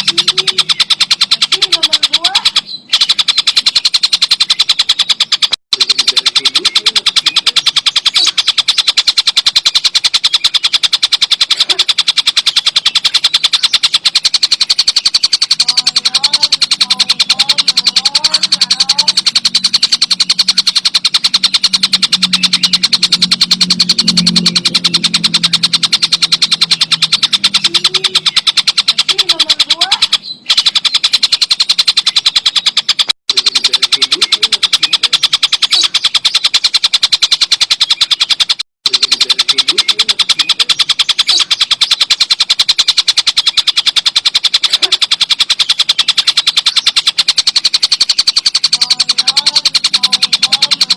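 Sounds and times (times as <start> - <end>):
kingfisher rattling call: 0.0 - 50.9.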